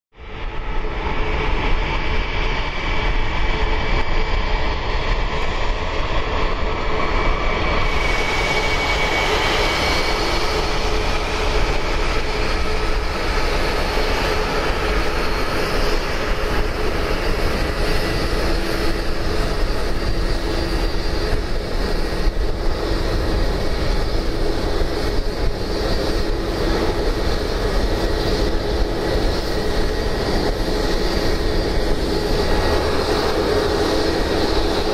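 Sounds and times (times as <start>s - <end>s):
jet engines whine and rumble: 0.1s - 34.9s.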